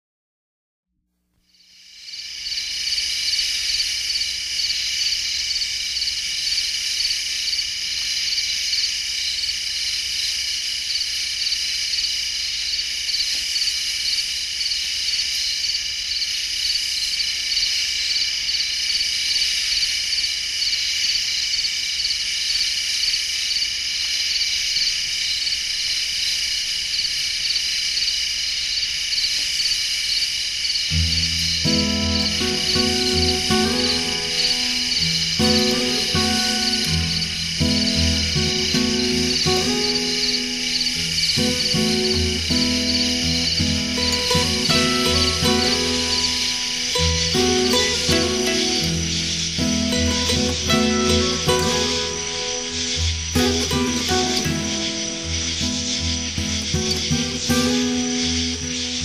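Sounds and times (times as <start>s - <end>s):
insects calling with pulsing trill: 1.4s - 59.0s.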